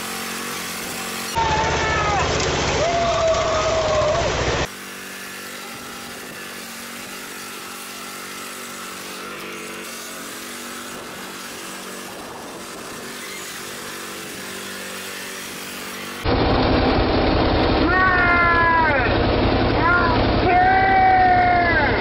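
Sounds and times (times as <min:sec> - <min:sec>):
riding lawn mower engine running: 0:00.0 - 0:22.0.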